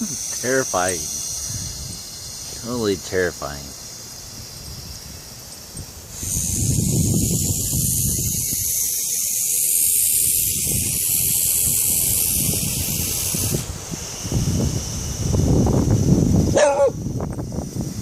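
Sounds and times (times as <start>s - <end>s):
snake hissing: 0.0s - 18.0s.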